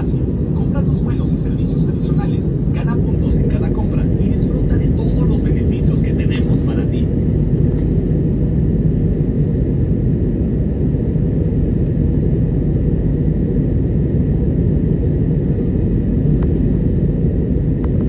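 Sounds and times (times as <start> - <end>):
airplane cabin engine rush: 0.0 - 18.0.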